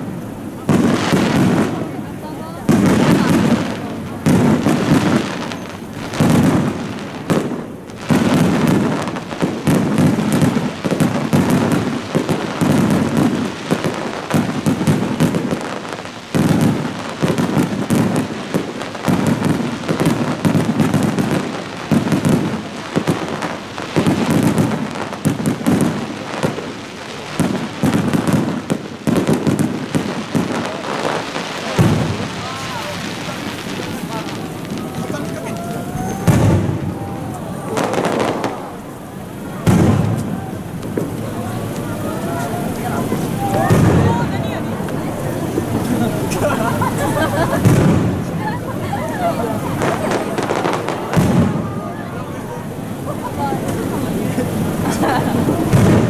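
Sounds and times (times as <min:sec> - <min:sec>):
fireworks booming and cracking: 0:00.0 - 0:56.0.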